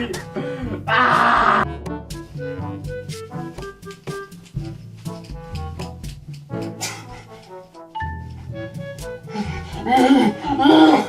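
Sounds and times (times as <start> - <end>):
steady drum beat: 0.0 - 6.8, 8.7 - 11.0
instrumental music with held notes: 0.0 - 11.0.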